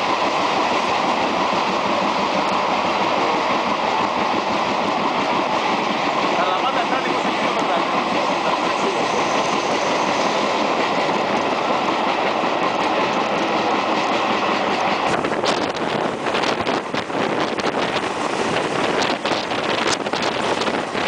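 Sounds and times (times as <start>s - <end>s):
train wheel and rail noise: 0.0s - 21.0s.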